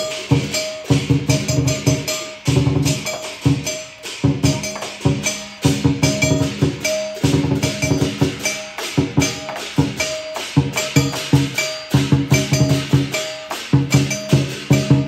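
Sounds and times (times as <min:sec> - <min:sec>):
big drum beating: 0:00.0 - 0:15.0
cymbals clashing: 0:00.0 - 0:15.0
gong: 0:00.0 - 0:15.0.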